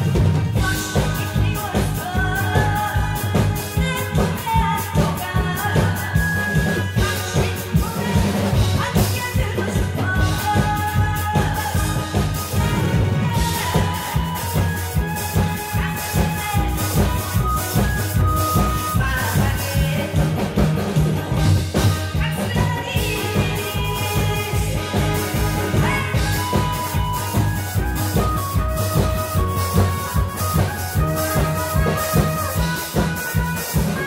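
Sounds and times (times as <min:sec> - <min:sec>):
amplified backing music with beat: 0:00.0 - 0:34.0
woman singing into a microphone: 0:00.5 - 0:34.0.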